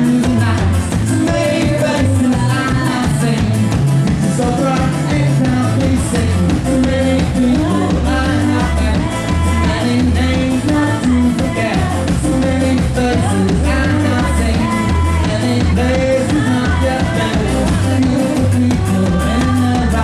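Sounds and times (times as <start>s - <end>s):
bass line: 0.0s - 20.0s
drum kit: 0.0s - 20.0s
person singing: 0.0s - 20.0s
rock band playing live: 0.0s - 20.0s.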